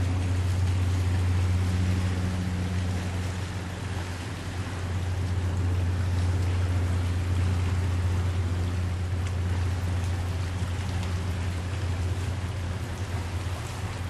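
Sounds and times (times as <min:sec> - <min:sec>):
boat engine humming: 0:00.0 - 0:14.0
water washing: 0:00.0 - 0:14.0.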